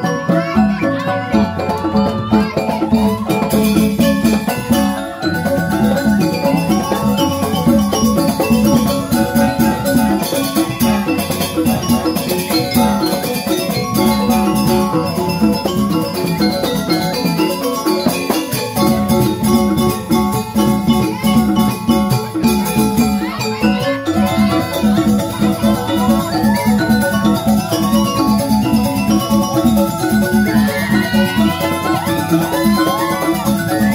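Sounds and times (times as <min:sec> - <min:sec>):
bamboo xylophones playing fast melody: 0:00.0 - 0:33.9
hand drums: 0:00.0 - 0:33.9.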